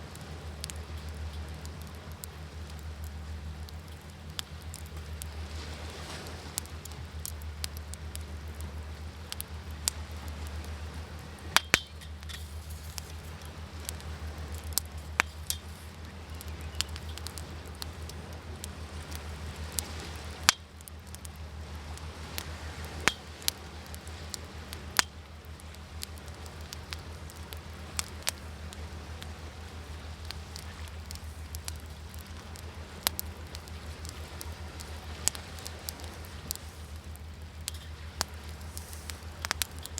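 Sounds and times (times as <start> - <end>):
sea waves: 0.0 - 39.9
wood fire crackling: 0.0 - 39.9.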